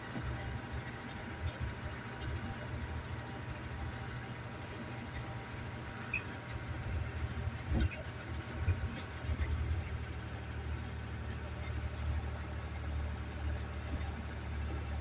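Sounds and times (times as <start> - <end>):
low engine and road rumble: 0.0 - 15.0.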